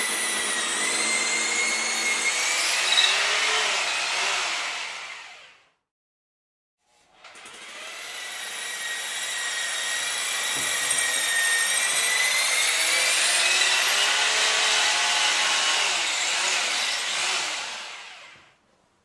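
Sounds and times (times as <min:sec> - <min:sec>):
electric hammer drill whining: 0:00.0 - 0:05.6, 0:07.3 - 0:18.5.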